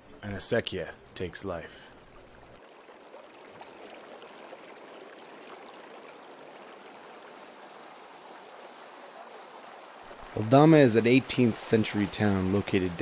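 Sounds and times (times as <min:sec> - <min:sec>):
water running along canal: 0:00.0 - 0:13.0.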